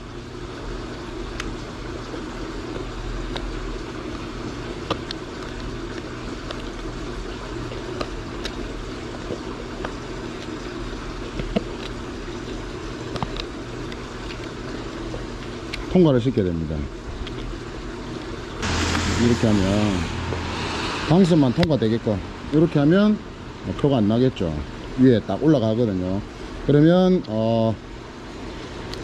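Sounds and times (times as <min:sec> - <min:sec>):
low background hum and hiss: 0:00.0 - 0:29.0.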